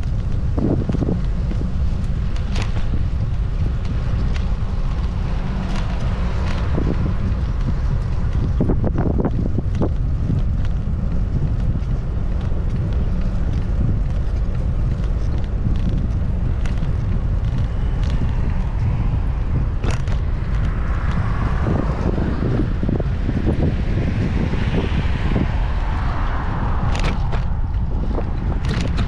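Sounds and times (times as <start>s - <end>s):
small clicks and rattles: 0.0s - 21.9s, 26.8s - 29.0s
wind buffeting microphone: 0.0s - 29.0s.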